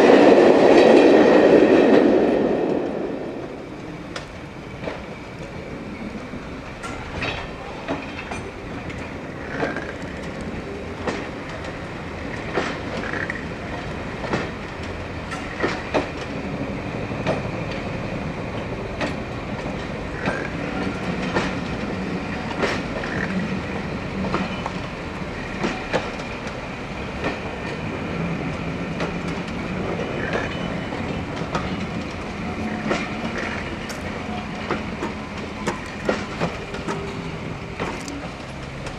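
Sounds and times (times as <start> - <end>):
train rumbling along track: 0.0 - 38.9
wheels clicking over rail joints: 3.8 - 16.4, 17.2 - 38.9.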